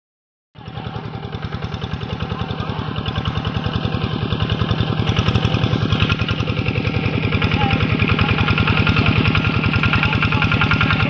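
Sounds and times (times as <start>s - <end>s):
tractor engine chugging: 0.6s - 11.0s.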